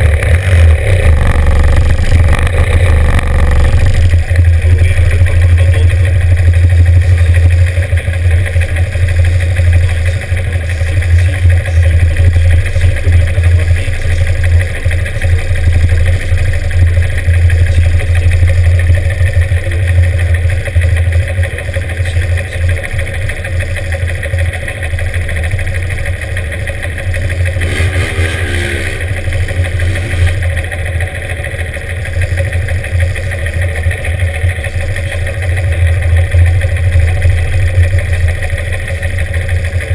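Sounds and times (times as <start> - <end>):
motorcycle engine revving: 0.0 - 39.9
motorcycle engines idling: 0.0 - 39.9.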